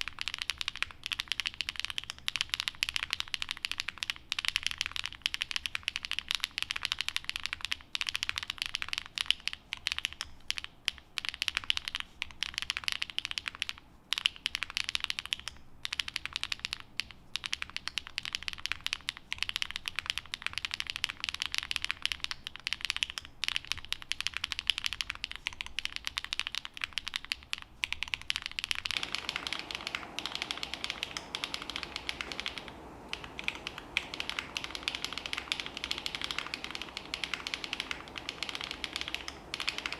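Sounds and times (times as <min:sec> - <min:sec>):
mechanical keyboard typing: 0:00.0 - 0:39.9
room noise: 0:00.0 - 0:39.9.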